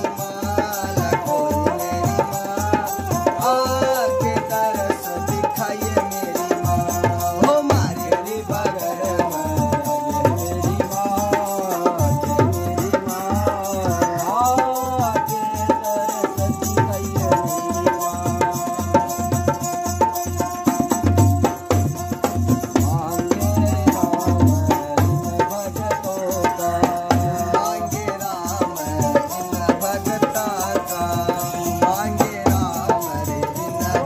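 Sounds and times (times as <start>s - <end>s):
barrel drum beat: 0.0s - 34.0s.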